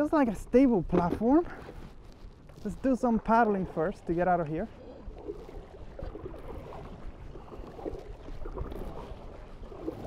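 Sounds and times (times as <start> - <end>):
water splashing around hull: 0.0 - 10.0
paddle strokes in water: 0.2 - 10.0.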